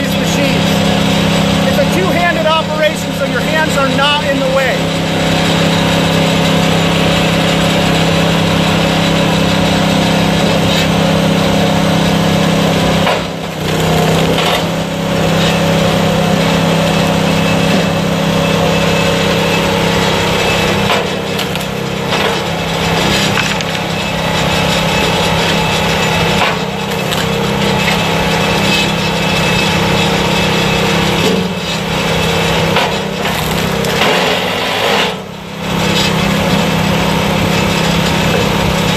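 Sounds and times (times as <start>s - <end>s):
log splitter engine running: 0.0s - 38.9s
logs splitting: 0.0s - 38.9s.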